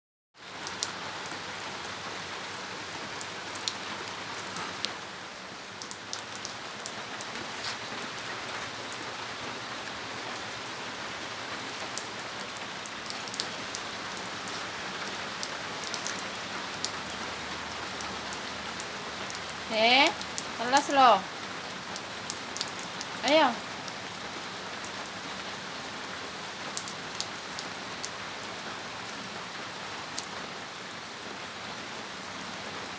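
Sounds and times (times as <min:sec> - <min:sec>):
raindrops tapping close by: 0:00.4 - 0:32.9
steady rain falling: 0:00.4 - 0:32.9.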